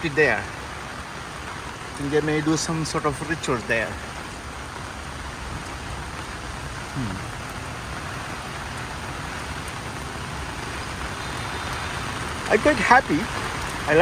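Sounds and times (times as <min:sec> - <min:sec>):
rain pattering on ground: 0:00.0 - 0:14.0.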